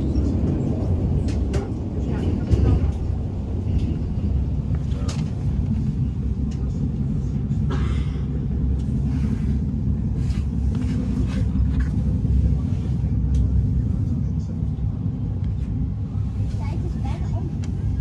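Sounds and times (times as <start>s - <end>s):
passenger train rumbling: 0.0s - 18.0s.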